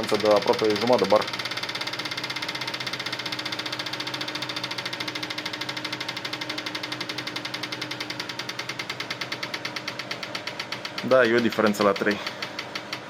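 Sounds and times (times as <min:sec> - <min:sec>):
fuel injectors clicking: 0:00.0 - 0:13.0
test bench humming: 0:00.0 - 0:13.0.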